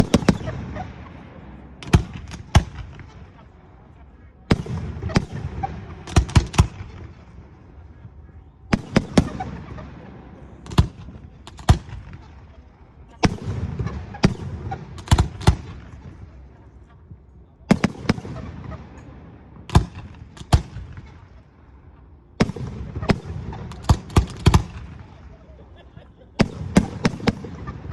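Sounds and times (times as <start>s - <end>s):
fireworks bangs: 0.0s - 25.5s, 26.3s - 27.9s
fireworks crackling rumble: 0.0s - 27.9s.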